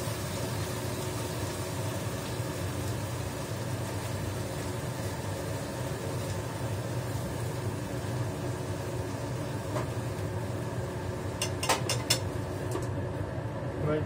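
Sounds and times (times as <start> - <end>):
range hood fan humming: 0.0 - 14.0.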